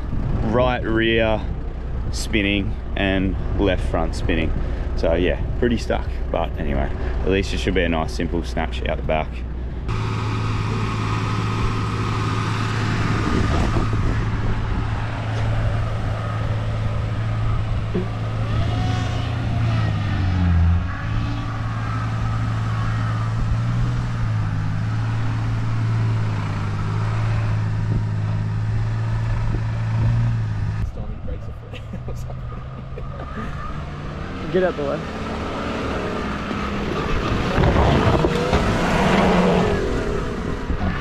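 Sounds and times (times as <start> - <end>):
four-wheel-drive engines running: 0.0 - 41.0.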